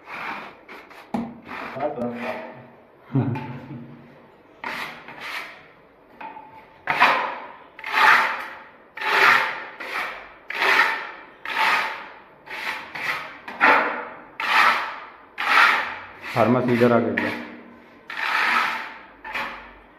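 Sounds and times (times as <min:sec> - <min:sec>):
hand float scraping on wall: 0:00.0 - 0:02.7, 0:04.6 - 0:05.7, 0:06.8 - 0:19.9.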